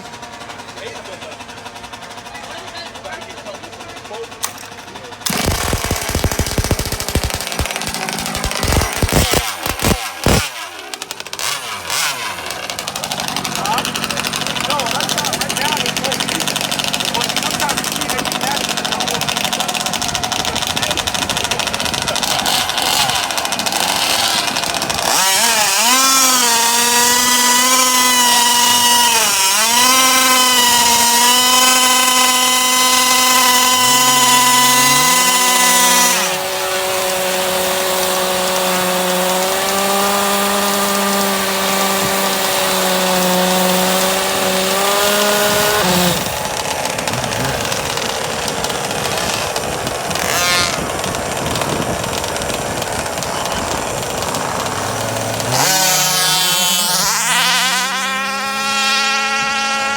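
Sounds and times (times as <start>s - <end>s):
high-pitched two-stroke engine: 0.0s - 59.9s
lower-pitched two-stroke engine: 0.0s - 59.9s.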